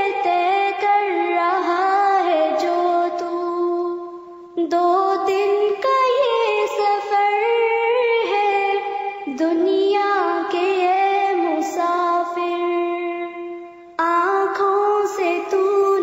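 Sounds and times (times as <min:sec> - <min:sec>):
slow high singing voice: 0:00.0 - 0:16.0.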